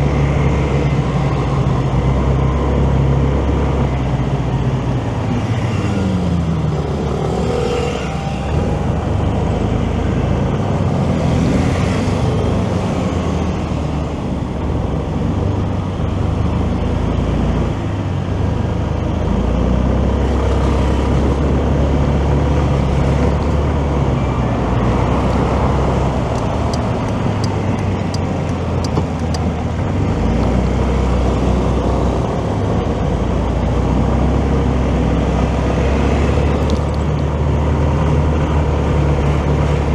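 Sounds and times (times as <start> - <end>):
motorcycle engine running: 0.0 - 35.6
road noise: 0.0 - 39.9.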